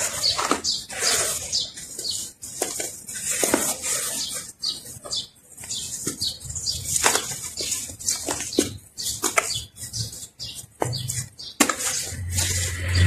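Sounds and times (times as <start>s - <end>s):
hands raking gritty sand: 0.0s - 13.0s.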